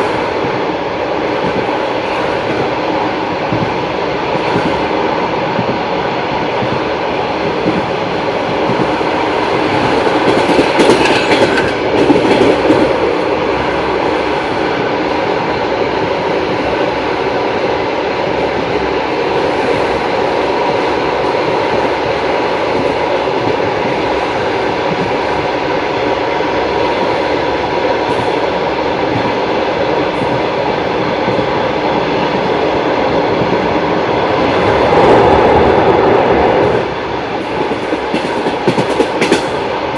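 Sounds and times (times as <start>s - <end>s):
train wheels clattering over rails: 0.0s - 20.0s, 27.6s - 39.9s.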